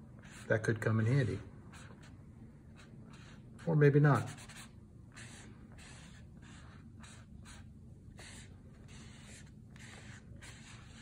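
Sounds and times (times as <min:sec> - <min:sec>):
cloth scratching on paper: 0:00.0 - 0:00.7, 0:01.7 - 0:11.0.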